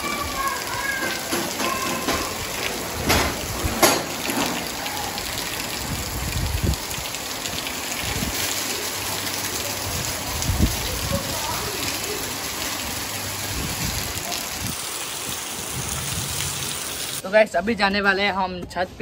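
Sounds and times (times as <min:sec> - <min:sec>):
heavy rain on a street: 0:00.0 - 0:17.2
water running off roof edges: 0:00.0 - 0:17.2.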